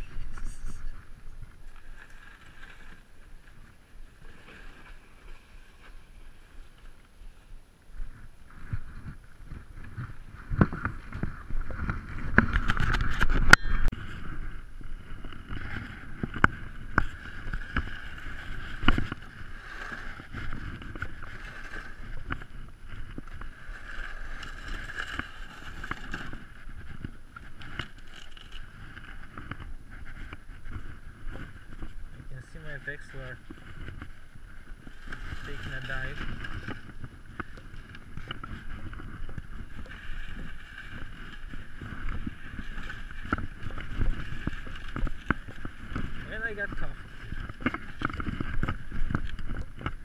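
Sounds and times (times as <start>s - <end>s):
sled runners scraping snow: 0.0s - 50.0s.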